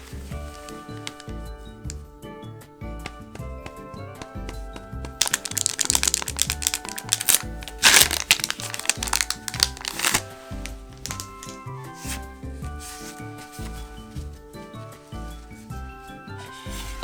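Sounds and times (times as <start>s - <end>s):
foil wrapper crinkling: 0.0s - 2.1s, 5.0s - 17.0s
background music with steady beat: 0.0s - 17.0s.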